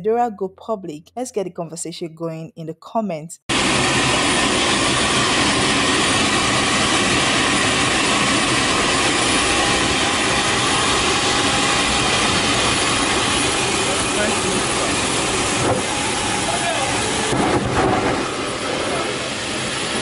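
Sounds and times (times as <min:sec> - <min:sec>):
jet engine roaring: 0:03.5 - 0:20.0.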